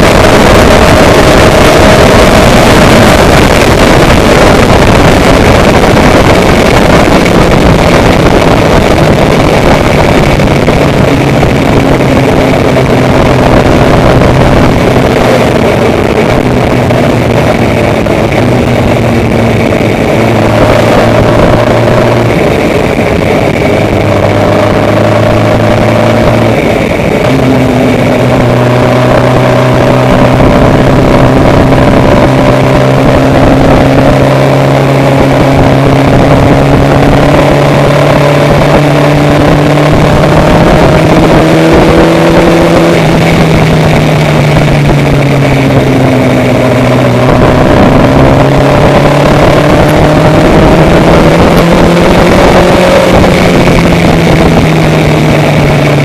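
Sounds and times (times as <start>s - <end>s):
rushing noise: 0.0s - 56.0s
vehicle engine running: 0.0s - 56.0s.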